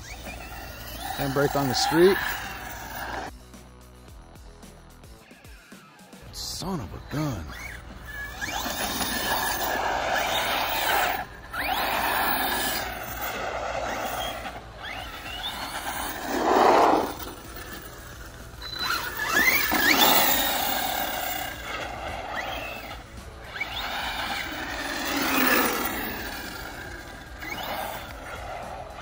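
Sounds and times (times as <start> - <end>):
tyres squealing on asphalt: 0.0 - 3.3, 6.4 - 29.0
rc car motor whining: 0.0 - 3.5, 5.3 - 29.0.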